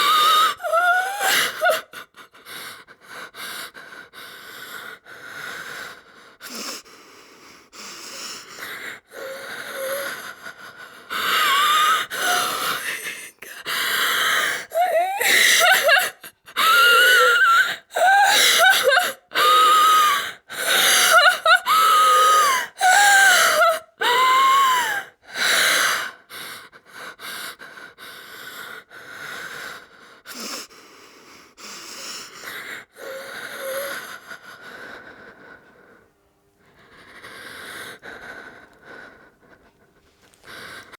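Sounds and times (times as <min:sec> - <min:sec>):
woman gasping for breath: 0:00.0 - 0:36.0.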